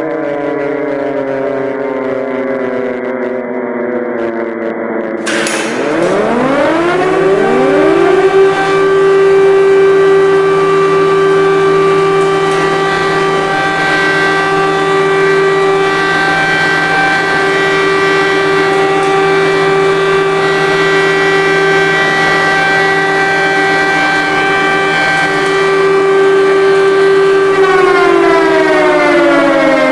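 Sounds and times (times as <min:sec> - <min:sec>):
air-raid siren wailing: 0:00.0 - 0:29.9.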